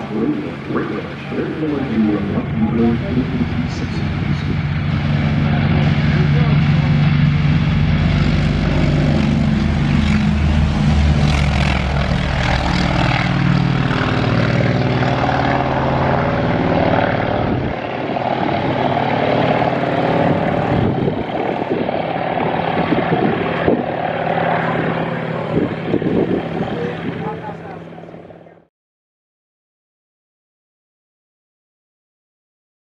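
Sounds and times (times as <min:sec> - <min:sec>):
propeller aircraft engine: 0:00.0 - 0:28.7.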